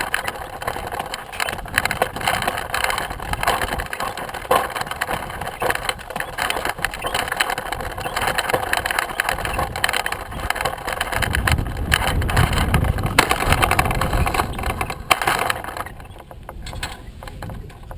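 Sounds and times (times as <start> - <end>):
clattering and rattling: 0.0 - 17.9.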